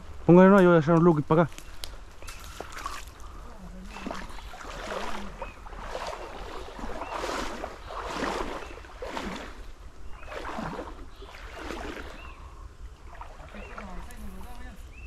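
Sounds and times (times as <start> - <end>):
wading through shallow water: 1.0 - 15.0.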